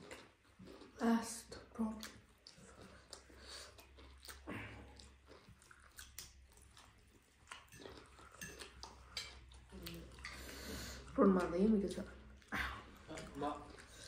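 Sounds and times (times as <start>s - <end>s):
people chewing food: 0.0s - 14.0s.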